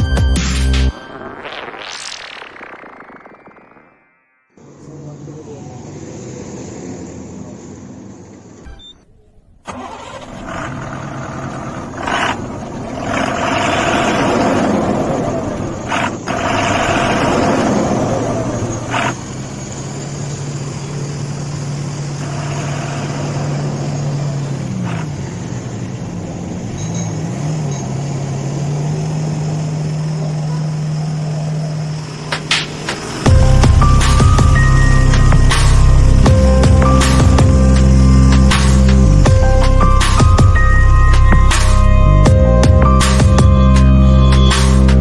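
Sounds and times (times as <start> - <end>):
bus engine starting and idling: 4.6 - 45.0.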